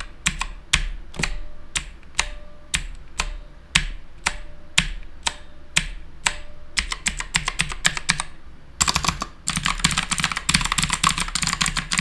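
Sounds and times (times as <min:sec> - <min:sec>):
clicky mechanical keyboard typing: 0:00.0 - 0:12.0.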